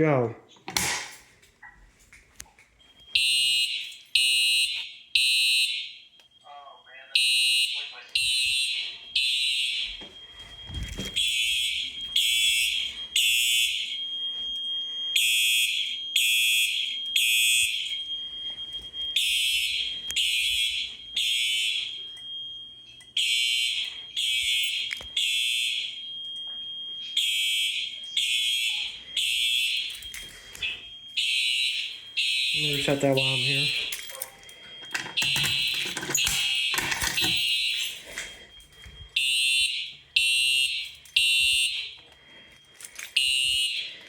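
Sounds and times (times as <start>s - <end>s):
fire alarm horn blasts: 2.8s - 44.0s.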